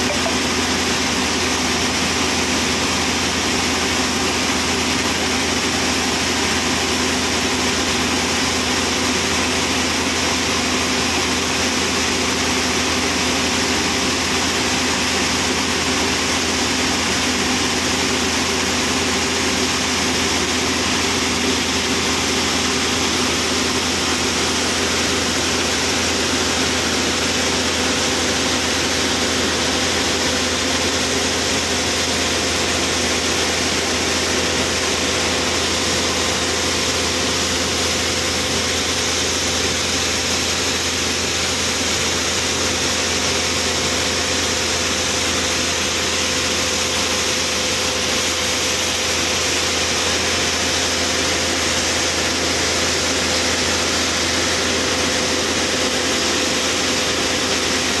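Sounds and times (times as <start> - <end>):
vacuum unloader machine drone: 0.0 - 58.0.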